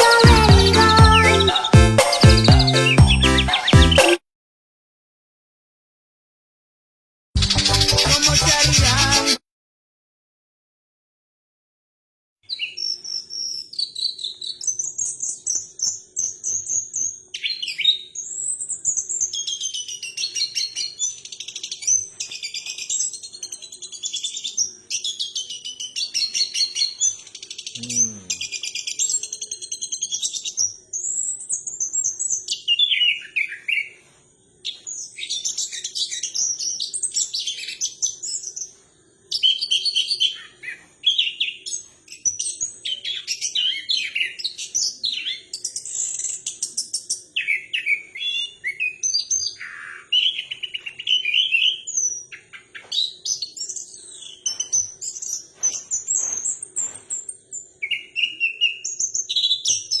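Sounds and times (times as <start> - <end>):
songbird singing: 0.0 - 4.2, 12.4 - 34.0, 34.7 - 60.0.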